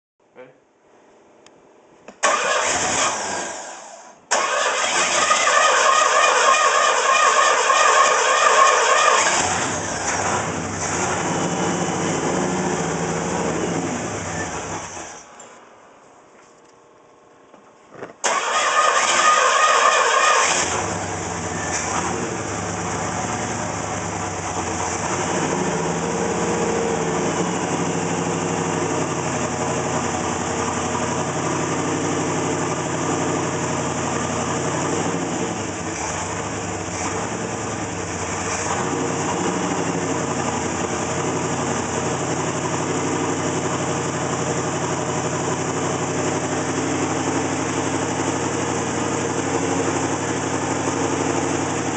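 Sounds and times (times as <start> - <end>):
engine starting and idling roughly: 2.2 - 11.6, 18.2 - 51.9.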